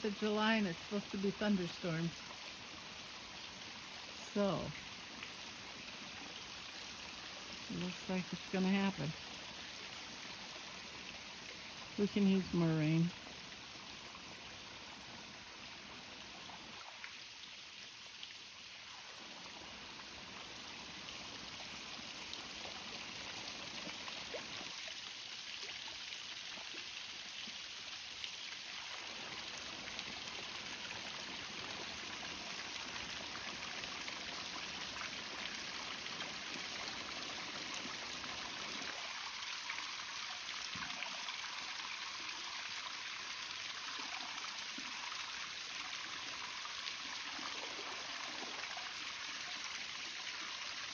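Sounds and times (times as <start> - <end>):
running water flowing: 0.0 - 50.9.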